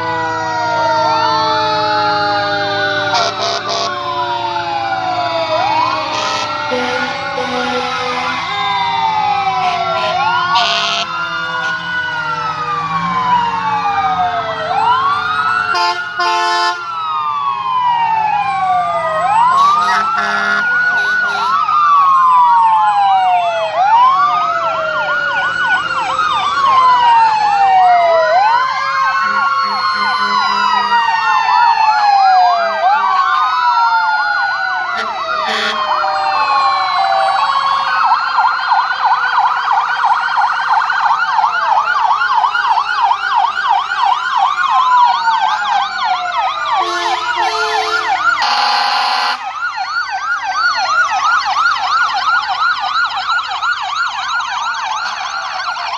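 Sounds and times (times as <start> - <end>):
fire engine sirens wailing: 0.0 - 55.9
steady siren tones blast: 0.0 - 55.9.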